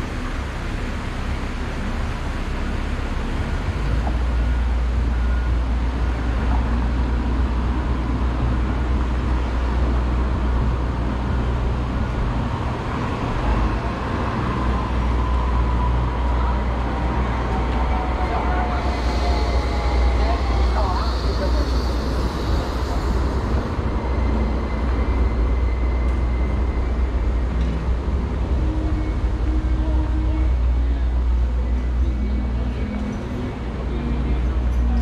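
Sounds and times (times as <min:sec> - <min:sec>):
city street traffic: 0:00.0 - 0:35.0.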